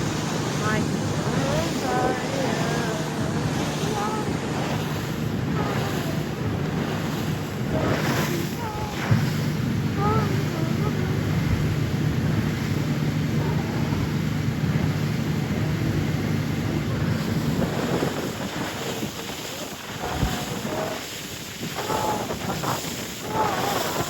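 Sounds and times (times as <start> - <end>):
motorboat engine drone: 0.0 - 24.0
water rushing past hull: 0.0 - 24.0
wind buffeting microphone: 0.0 - 24.0.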